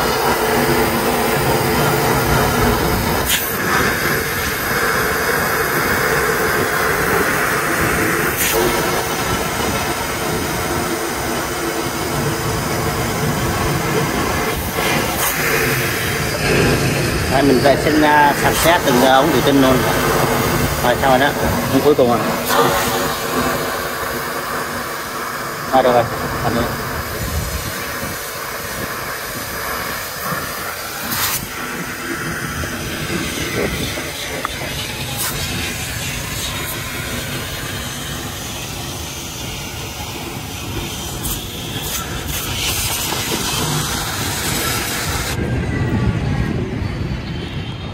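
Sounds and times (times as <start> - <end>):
water spray hissing: 0.0 - 45.4.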